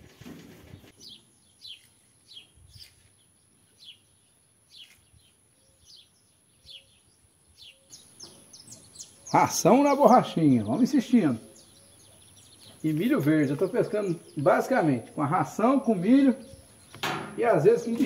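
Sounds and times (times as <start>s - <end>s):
bird chirping: 0.6s - 18.0s.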